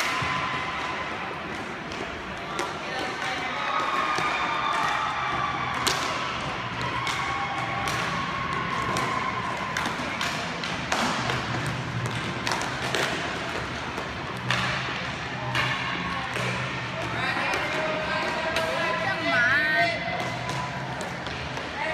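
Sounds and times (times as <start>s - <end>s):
hockey sticks and pucks knocking: 0.0s - 21.8s
skate wheels rolling: 0.0s - 21.9s.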